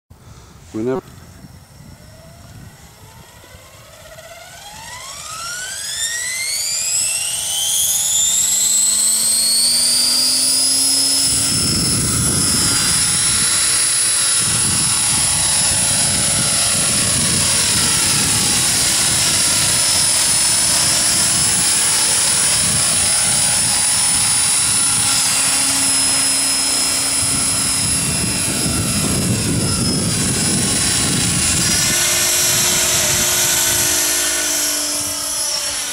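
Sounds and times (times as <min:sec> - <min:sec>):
electric motor and gear whine: 0:00.6 - 0:35.9.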